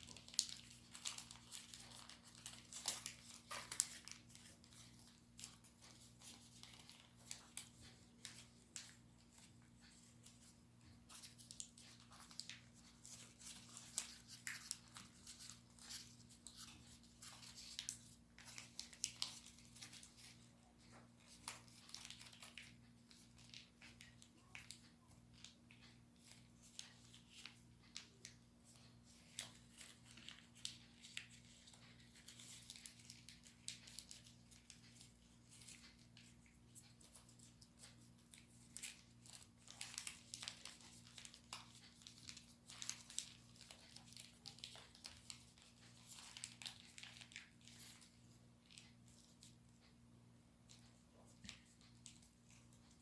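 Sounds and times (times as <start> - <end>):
paper being folded and creased: 0.0 - 49.5.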